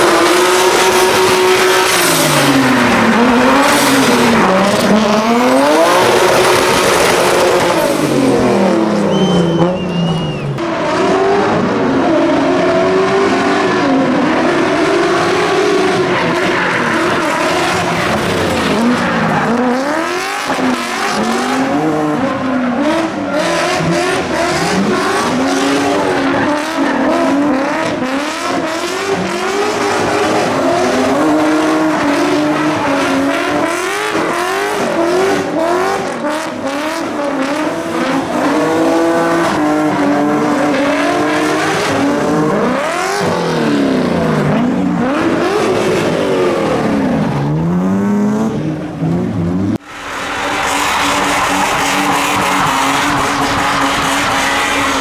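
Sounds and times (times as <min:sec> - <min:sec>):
cars passing by: 0:00.0 - 0:55.0
rally car engines revving: 0:00.0 - 0:55.0.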